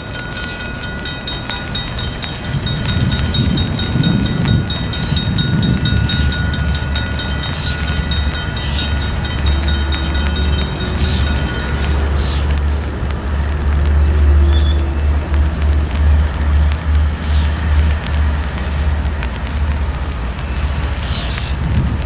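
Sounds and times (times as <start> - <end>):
diesel locomotive rumble: 0.0 - 22.0.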